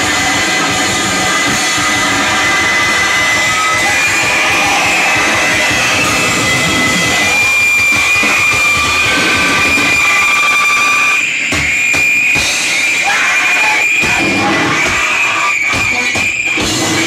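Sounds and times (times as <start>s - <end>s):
high-pitched whine: 0.0s - 17.0s
noise-rock band playing loud: 0.0s - 17.0s.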